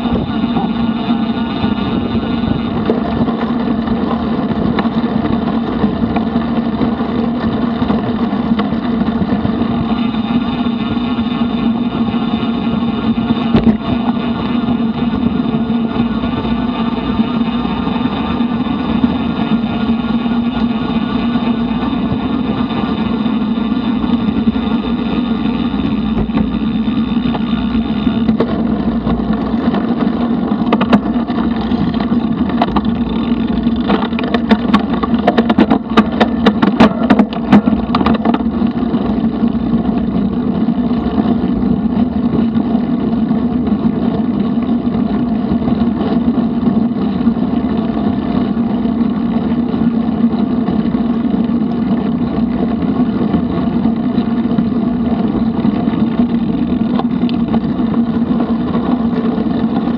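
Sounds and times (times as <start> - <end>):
tyre and wind noise: 0.0 - 59.9.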